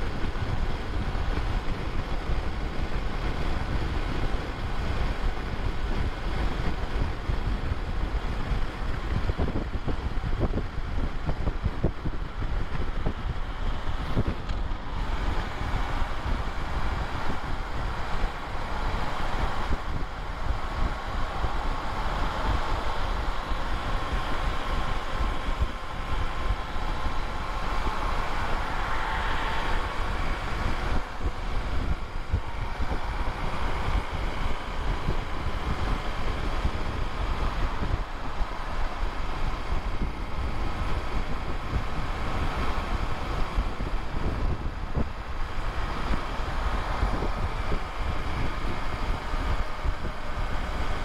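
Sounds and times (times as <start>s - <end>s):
road noise: 0.0s - 51.0s
wind noise on microphone: 0.0s - 51.0s.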